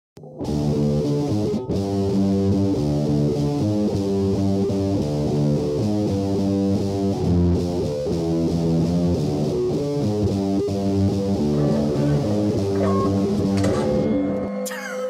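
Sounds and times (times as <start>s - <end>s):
bass guitar: 0.2s - 14.6s
electric guitar riff: 0.2s - 14.7s.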